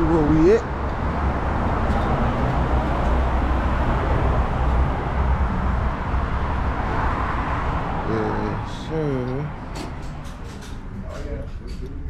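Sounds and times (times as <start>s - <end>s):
vehicle and road rumble: 0.0s - 12.0s.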